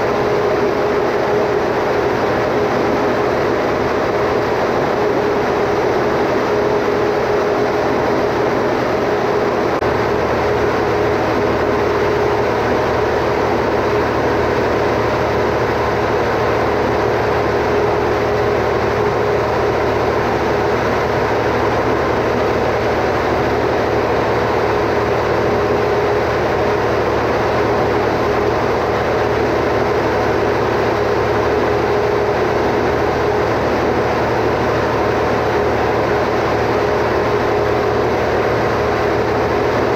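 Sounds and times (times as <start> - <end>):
generator engine hum: 0.0 - 39.9.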